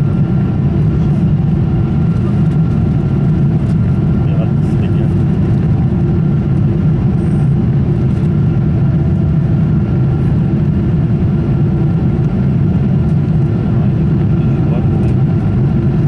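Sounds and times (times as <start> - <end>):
airplane cabin roar: 0.0 - 16.0.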